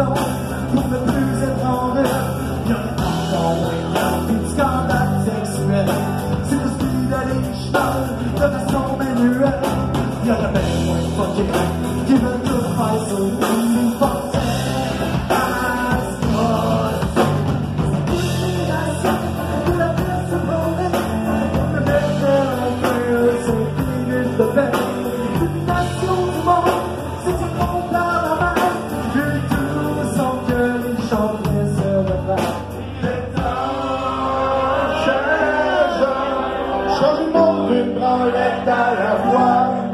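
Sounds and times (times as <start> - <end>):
drum kit beat: 0.0 - 34.8
rock band playing: 0.0 - 39.9.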